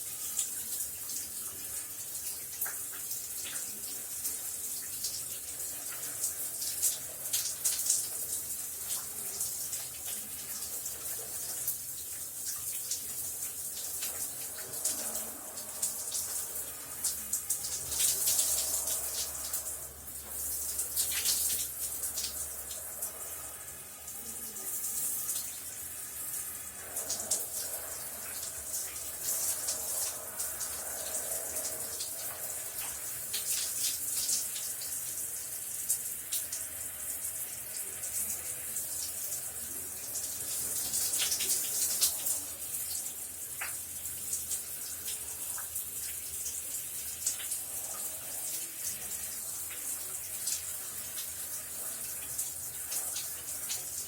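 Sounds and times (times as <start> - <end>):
shower water spray hissing: 0.0 - 54.0.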